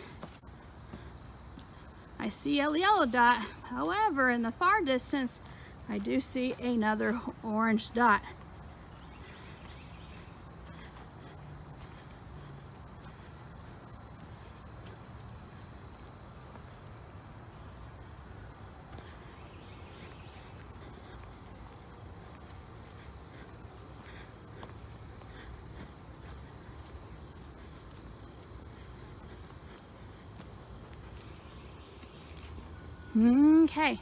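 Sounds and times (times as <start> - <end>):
faint higher insect trill: 0.0 - 34.0
insects trilling: 0.0 - 34.0.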